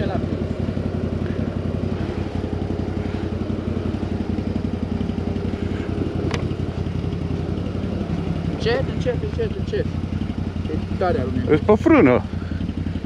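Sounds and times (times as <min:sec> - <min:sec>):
atv engine running at low revs: 0:00.0 - 0:13.0.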